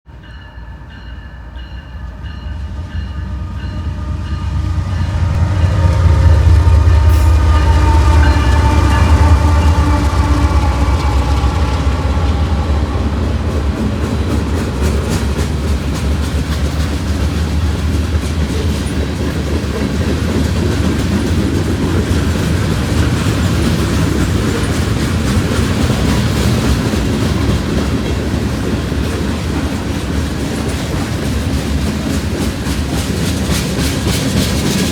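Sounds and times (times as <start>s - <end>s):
diesel locomotives passing: 0.1s - 34.9s
freight cars rolling rumble: 5.3s - 34.9s.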